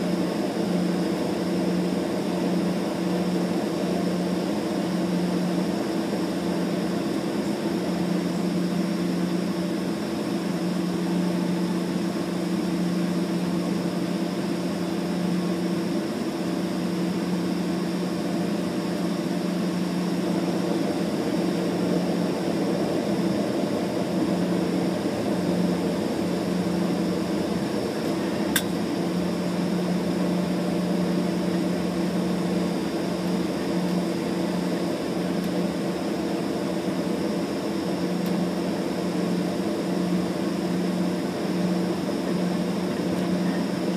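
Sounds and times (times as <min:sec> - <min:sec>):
airliner cabin engine drone: 0:00.0 - 0:43.9
faint high whine: 0:00.0 - 0:43.9.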